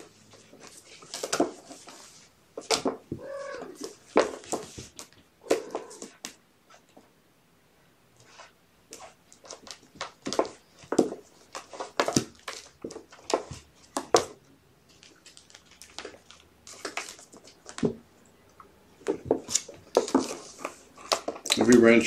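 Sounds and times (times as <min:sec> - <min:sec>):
kittens scrabbling on hard plastic: 0:00.0 - 0:06.4, 0:08.9 - 0:18.0, 0:19.0 - 0:22.0.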